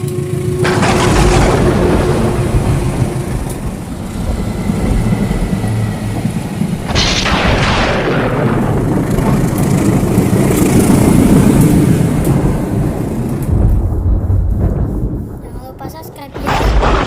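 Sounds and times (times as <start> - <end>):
thunder rumbling: 0.2 - 17.0
heavy rain: 0.4 - 17.0
sharp thunderclap: 0.6 - 17.0.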